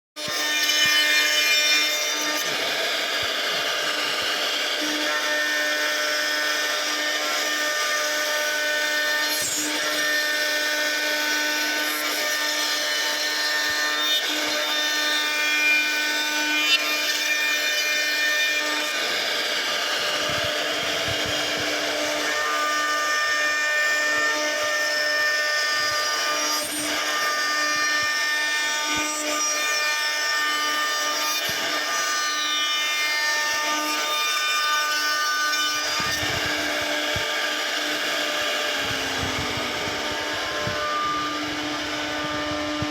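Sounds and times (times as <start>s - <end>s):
router spindle routing wood: 0.2s - 42.9s.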